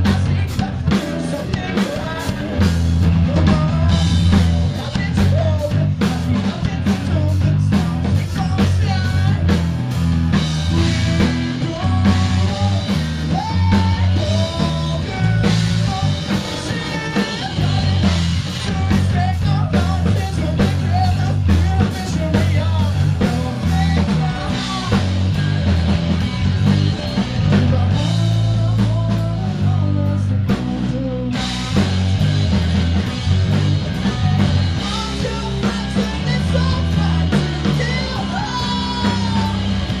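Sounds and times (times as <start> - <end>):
person singing: 0.0 - 9.6, 10.6 - 25.2, 27.4 - 31.9, 34.2 - 40.0
live rock band playing: 0.0 - 40.0.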